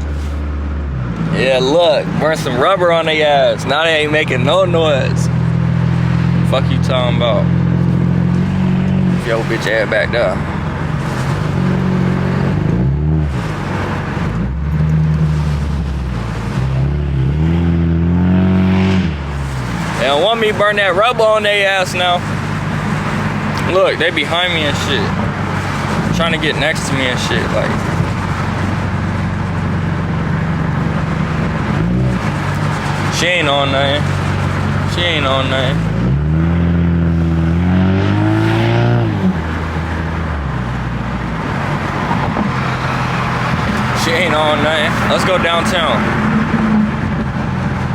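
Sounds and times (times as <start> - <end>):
car engine accelerating: 0.0 - 47.9
road noise: 0.0 - 47.9.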